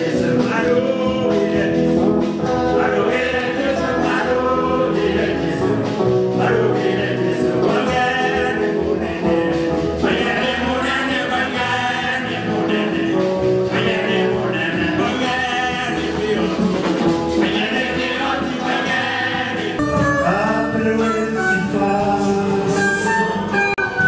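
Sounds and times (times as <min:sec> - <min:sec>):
instrumental backing: 0:00.0 - 0:24.0
men's choir singing gospel: 0:00.0 - 0:24.0.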